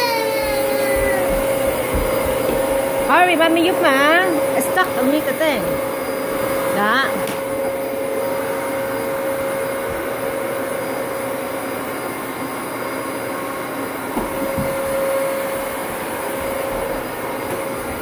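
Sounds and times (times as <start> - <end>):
vacuum cleaner whirring: 0.0 - 18.0.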